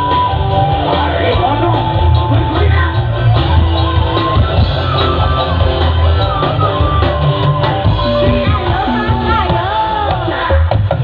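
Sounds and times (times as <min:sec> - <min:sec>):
loud music with heavy bass: 0:00.0 - 0:11.0.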